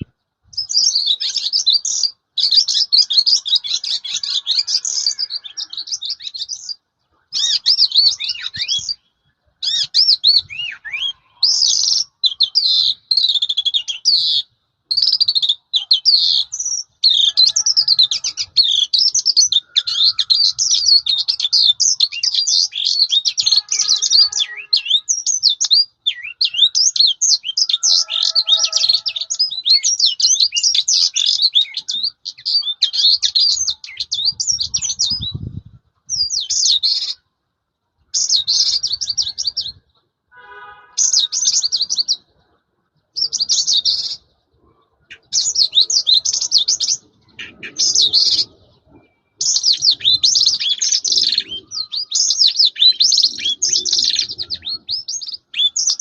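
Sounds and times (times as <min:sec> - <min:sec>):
lark singing: 0:00.0 - 0:37.3, 0:38.0 - 0:40.1, 0:41.0 - 0:56.0.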